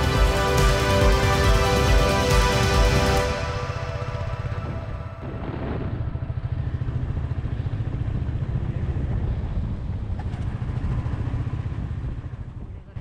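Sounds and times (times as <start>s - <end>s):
road rumble: 0.0s - 13.0s
vehicle engine: 0.0s - 13.0s.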